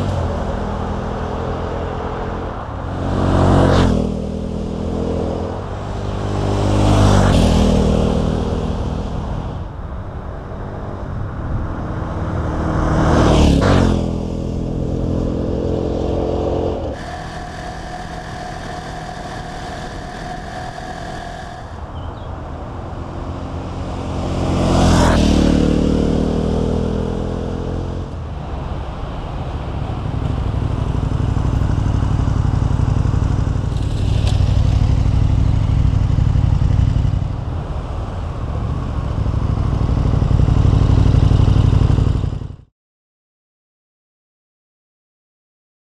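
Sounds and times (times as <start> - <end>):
motorcycle engine passing: 0.0 - 28.2, 29.9 - 42.7.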